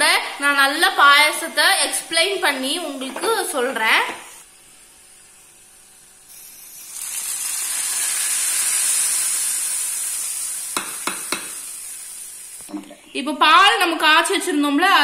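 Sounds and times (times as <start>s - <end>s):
hot ghee sizzling: 0.0s - 12.8s.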